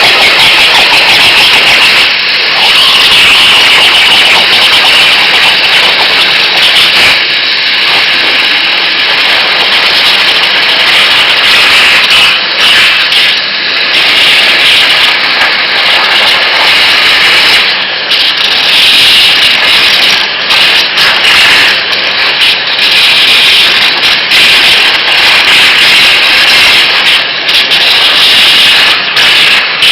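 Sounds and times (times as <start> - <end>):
waterjet hissing rush: 0.0 - 29.9.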